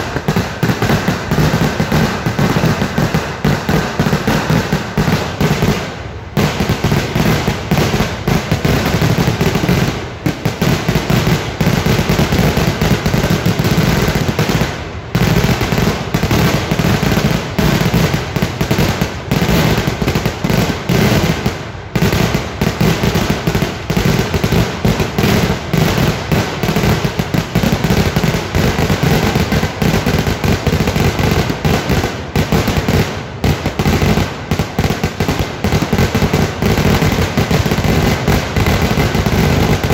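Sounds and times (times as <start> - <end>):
fireworks banging in a barrage: 0.0 - 39.9.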